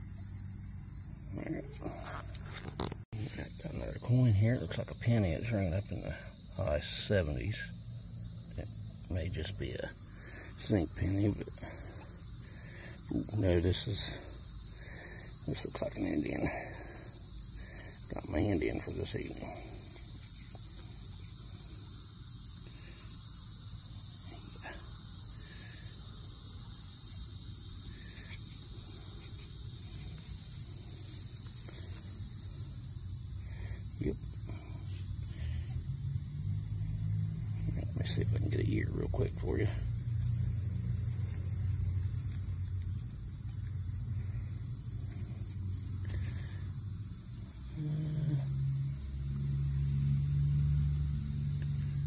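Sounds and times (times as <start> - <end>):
insects chirping shrilly: 0.0 - 52.0.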